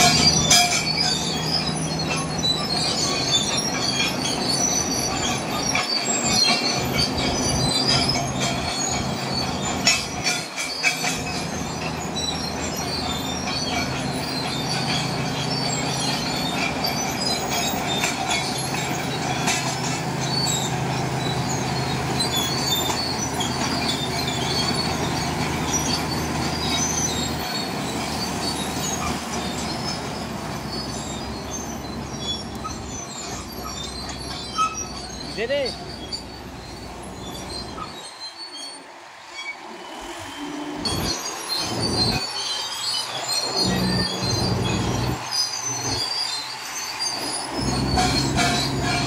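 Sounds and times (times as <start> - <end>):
bulldozer diesel engine under load: 0.0 - 49.0
steel tracks squeaking and clanking: 0.0 - 49.0.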